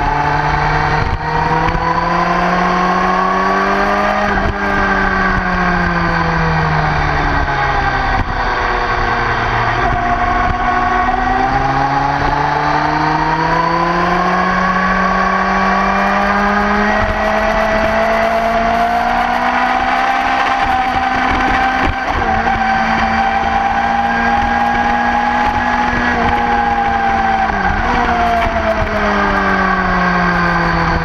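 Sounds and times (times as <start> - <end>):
motorcycle engine running hard: 0.0 - 31.0
wind noise: 0.0 - 31.0.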